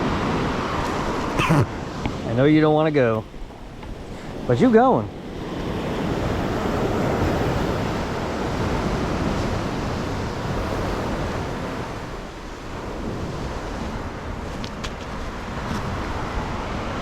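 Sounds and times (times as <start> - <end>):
ocean surf on beach: 0.0 - 17.0
wind buffeting microphone: 0.0 - 17.0.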